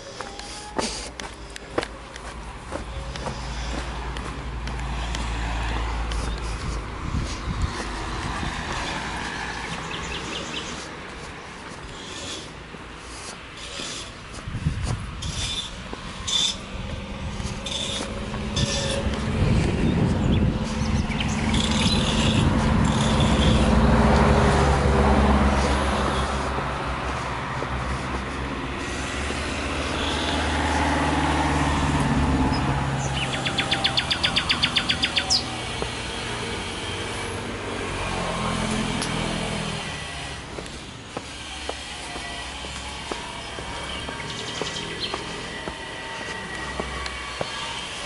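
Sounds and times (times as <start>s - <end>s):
footsteps on dirt path: 0.0s - 48.0s
car passing: 0.6s - 48.0s.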